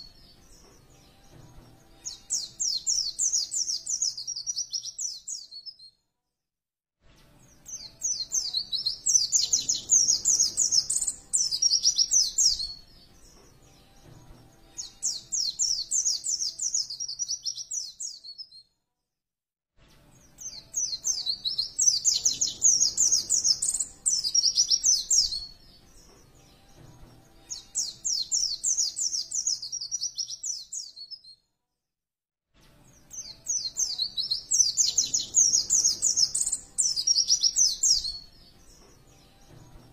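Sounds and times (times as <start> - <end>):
bird twittering song: 0.0 - 5.9, 7.5 - 18.6, 20.3 - 31.4, 33.0 - 39.9.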